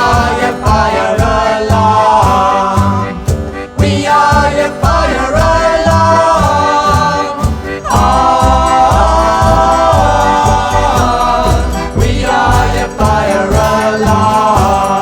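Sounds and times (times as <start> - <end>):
steady music beat: 0.0 - 14.7
voices singing long notes: 0.0 - 15.0.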